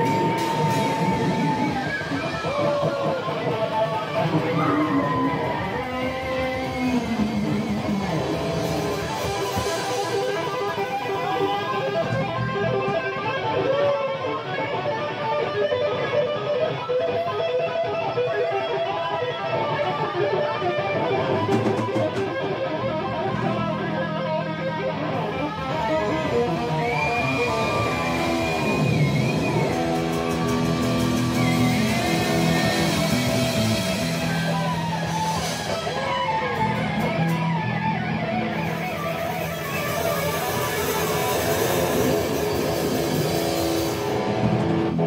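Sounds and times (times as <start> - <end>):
bass guitar: 0.0 - 45.0
electric guitar: 0.0 - 45.0.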